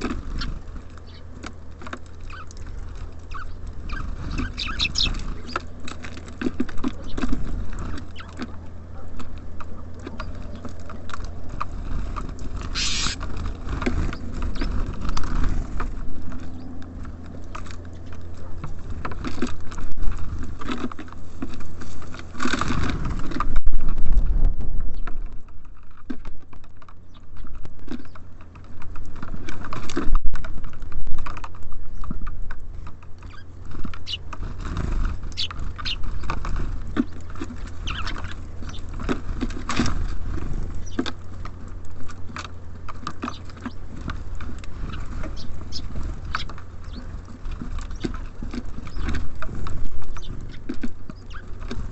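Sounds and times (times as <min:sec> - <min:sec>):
birds pecking on a feeder: 0:00.0 - 0:51.9
steady low rumble: 0:00.0 - 0:51.9.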